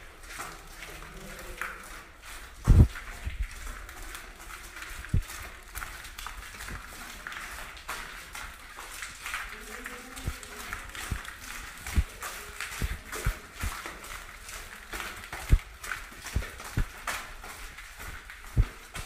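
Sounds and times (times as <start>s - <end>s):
footsteps and shuffling: 0.0s - 19.0s.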